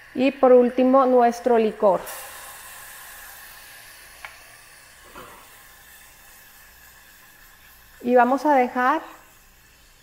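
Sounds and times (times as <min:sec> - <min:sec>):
liquid sizzling in a saucepan: 0:00.0 - 0:10.0.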